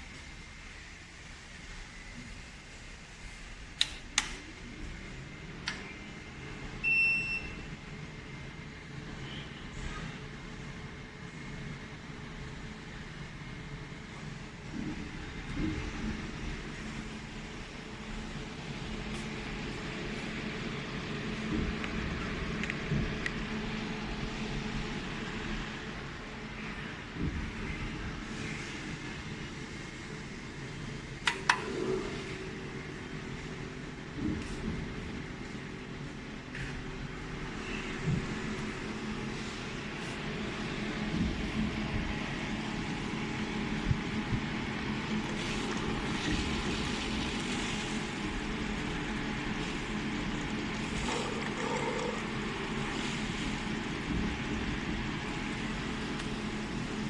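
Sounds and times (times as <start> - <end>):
welding machine fan hum: 10.2 - 57.0.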